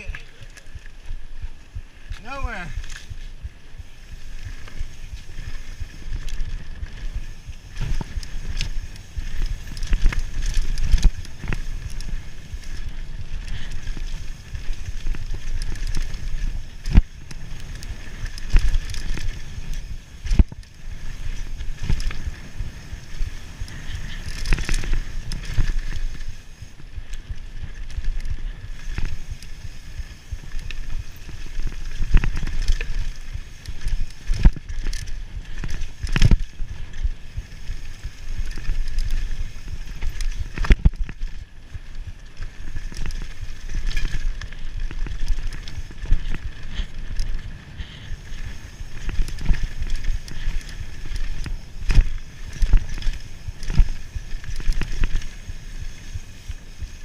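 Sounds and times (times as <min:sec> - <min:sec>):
bike tyres rumbling: 0:00.0 - 0:57.0
bike knocks and rattles: 0:04.5 - 0:26.4, 0:27.2 - 0:57.0.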